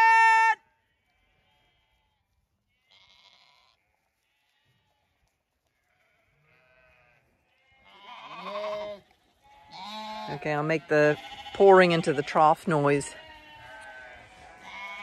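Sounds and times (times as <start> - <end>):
faint sheep bleats: 0.0 - 15.0.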